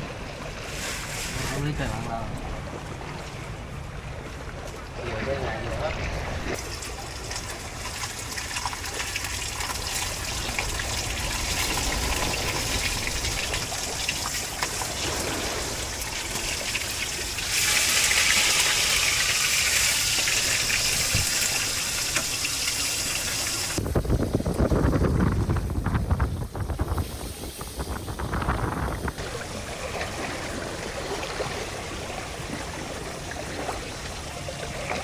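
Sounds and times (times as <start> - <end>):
water gushing and splashing: 0.0 - 35.0.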